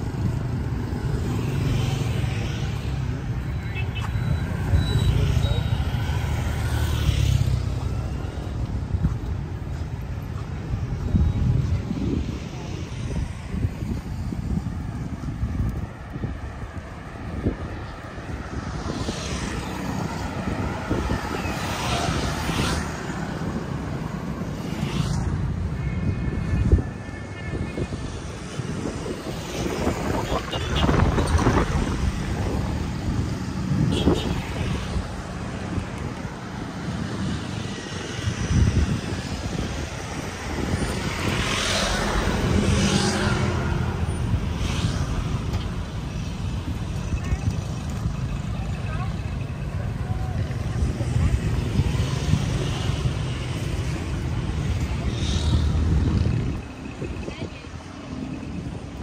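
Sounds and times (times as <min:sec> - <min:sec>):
cars and motorbikes passing: 0:00.0 - 0:59.0
low traffic rumble: 0:00.0 - 0:59.0.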